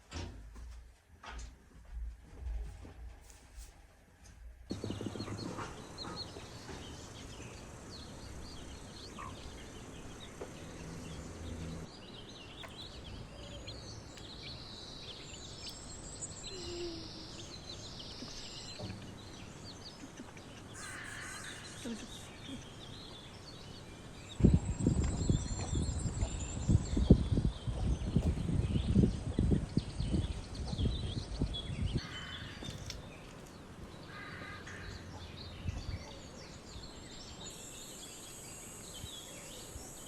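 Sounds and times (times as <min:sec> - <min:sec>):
small birds chirping: 0:04.7 - 0:40.0.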